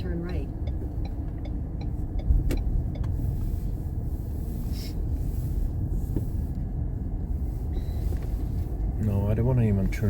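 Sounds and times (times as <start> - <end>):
car cabin road rumble: 0.0 - 10.0.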